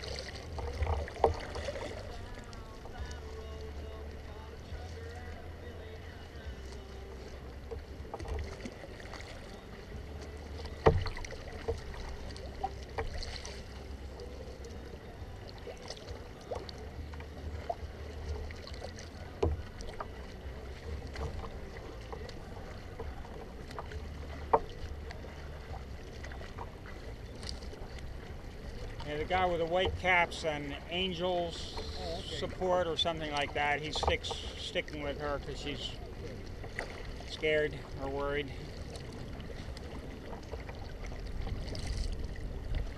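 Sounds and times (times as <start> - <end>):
paddle strokes splashing: 0.0 - 42.9
steady low rumble: 0.0 - 42.9.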